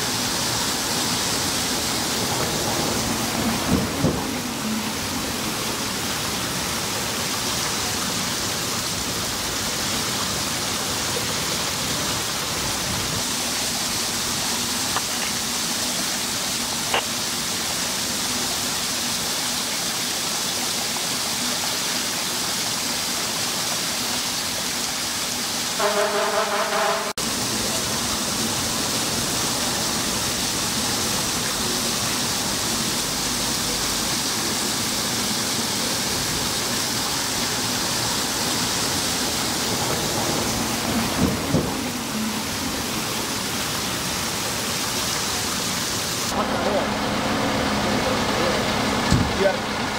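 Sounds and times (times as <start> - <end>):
water rushing: 0.0 - 49.9.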